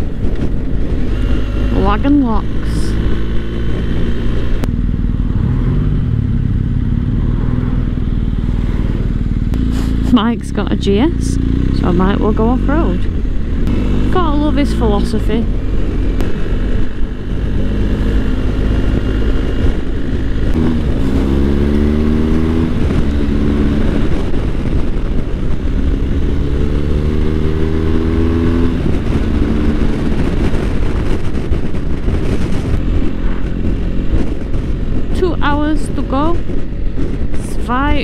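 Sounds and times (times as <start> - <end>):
wind and road rush: 0.0 - 38.0.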